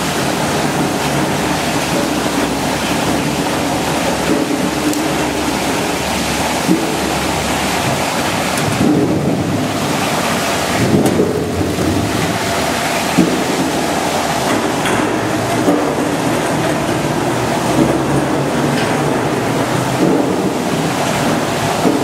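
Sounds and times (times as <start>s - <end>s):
washing machine water rushing: 0.0s - 22.0s.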